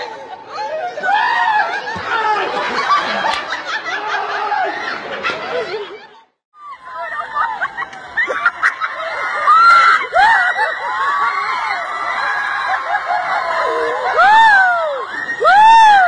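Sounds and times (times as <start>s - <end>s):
people laughing: 0.0s - 16.0s.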